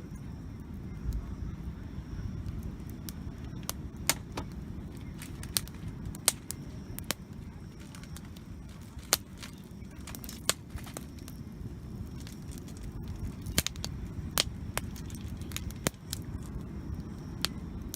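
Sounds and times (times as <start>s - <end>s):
low fire rumble: 0.0s - 17.9s
wood campfire crackling: 0.0s - 17.9s.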